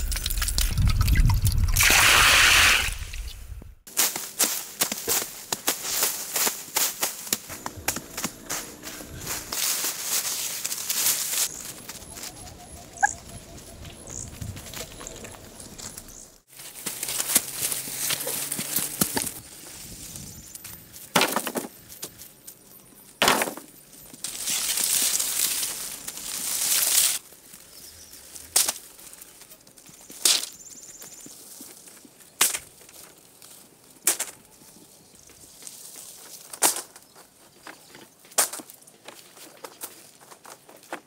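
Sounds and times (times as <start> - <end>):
rustling brush and leaves: 0.0 - 41.0.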